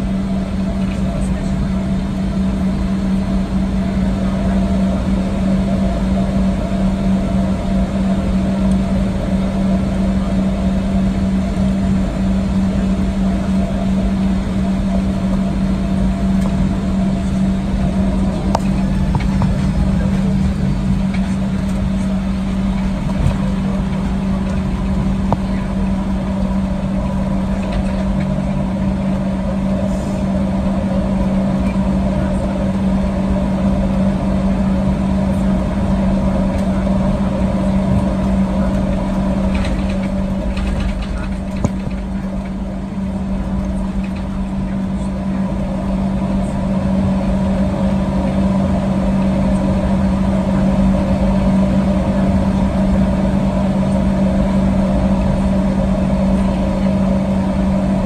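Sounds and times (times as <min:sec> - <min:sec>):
airplane cabin engine hum: 0:00.0 - 0:58.0.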